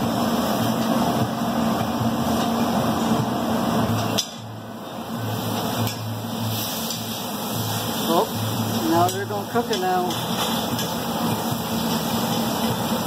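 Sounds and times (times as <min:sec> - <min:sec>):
kitchen fan hum: 0:00.0 - 0:13.0.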